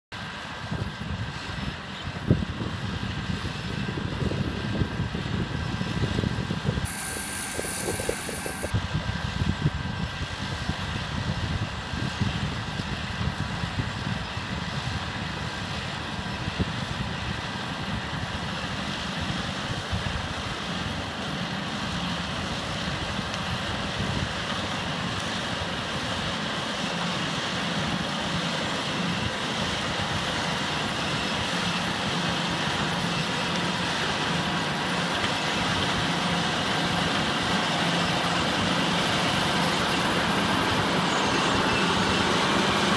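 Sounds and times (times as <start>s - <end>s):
combine harvester running: 0.1s - 42.9s.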